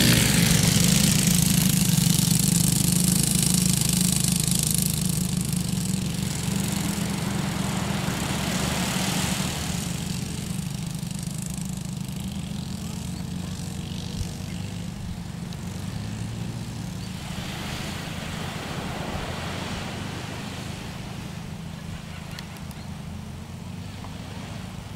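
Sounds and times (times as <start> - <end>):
quad bike engines droning: 0.0 - 24.9.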